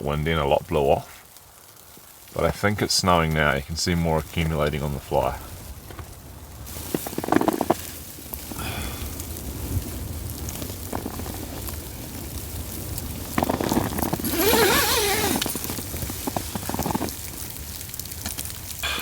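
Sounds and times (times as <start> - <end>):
rain pattering on a tent: 0.0 - 19.0.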